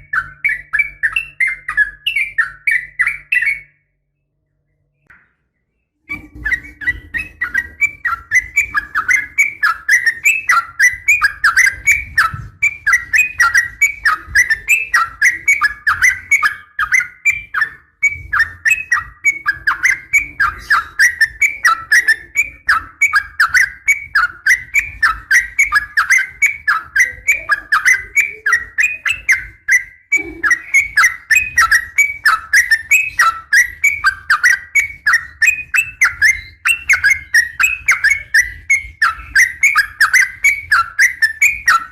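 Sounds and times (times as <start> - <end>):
bird chirping rapidly: 0.0 - 3.8, 4.8 - 41.9.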